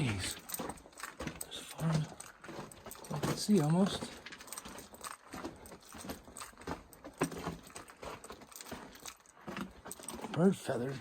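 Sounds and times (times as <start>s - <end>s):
footsteps on gravel: 0.0s - 11.0s.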